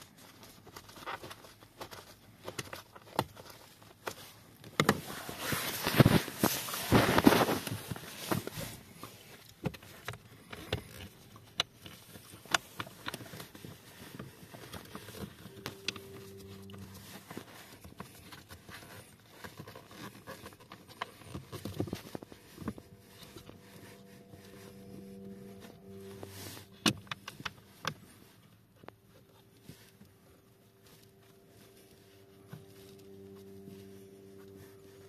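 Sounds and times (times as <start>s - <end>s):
rustling from hands: 0.0s - 35.0s.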